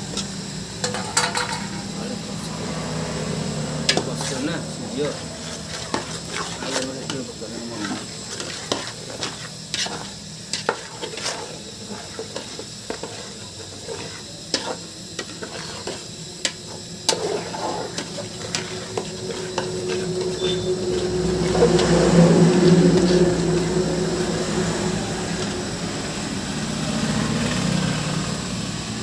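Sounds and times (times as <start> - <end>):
spoon scraping in a pan: 0.0 - 25.8
frying sizzle: 0.0 - 29.0
motor hum: 0.0 - 29.0.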